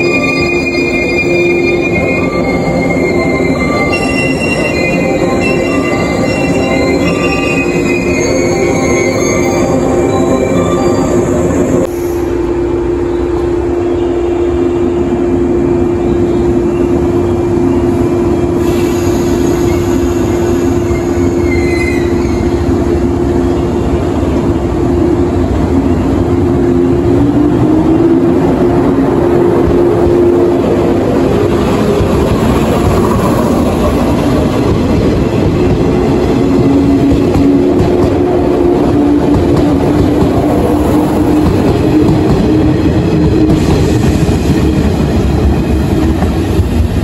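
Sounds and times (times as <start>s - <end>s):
electric train hum: 0.0s - 47.0s.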